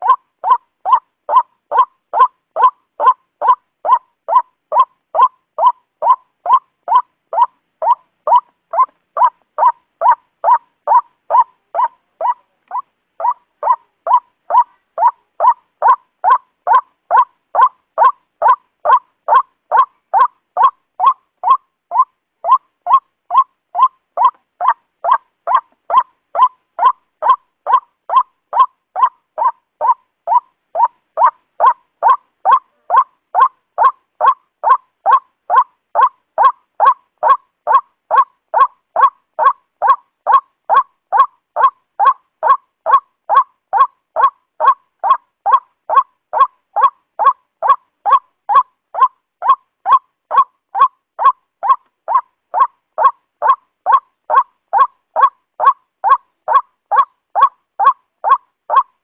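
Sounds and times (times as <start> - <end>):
waterhen calling: 0.0 - 58.9.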